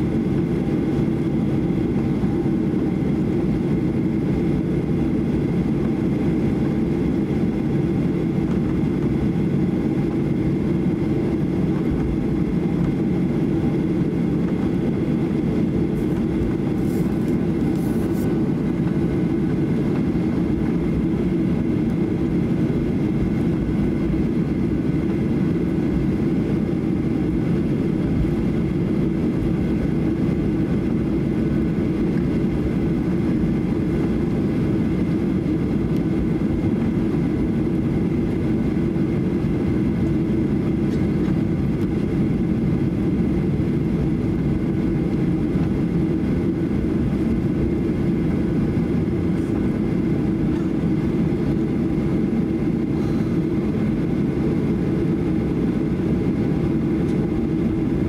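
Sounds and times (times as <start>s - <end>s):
aircraft engines taxiing rumble: 0.0s - 58.0s.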